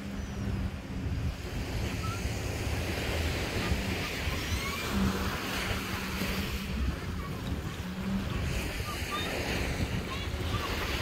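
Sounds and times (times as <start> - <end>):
wind buffeting microphone: 0.0 - 11.0
surf washing onto sand: 0.8 - 11.0.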